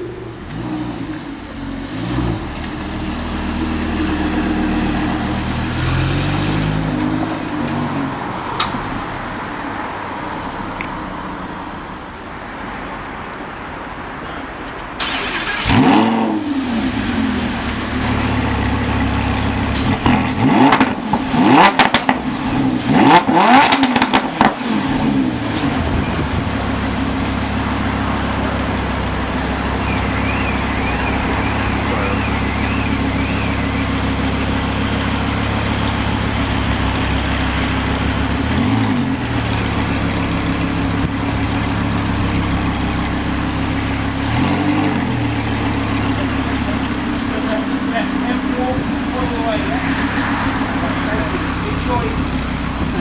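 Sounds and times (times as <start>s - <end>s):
car engine revving and idling: 0.0s - 12.5s, 15.0s - 53.0s.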